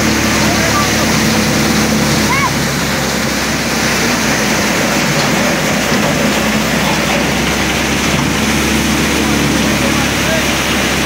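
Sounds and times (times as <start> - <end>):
threshing machine running: 0.0 - 11.0.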